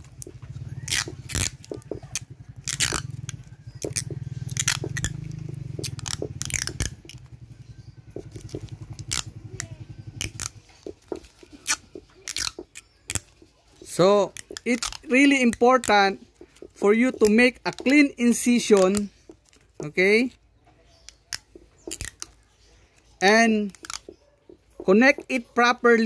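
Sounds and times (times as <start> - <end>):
plastic tape crackling and snapping: 0.0 - 7.4, 8.2 - 20.4, 21.0 - 24.2.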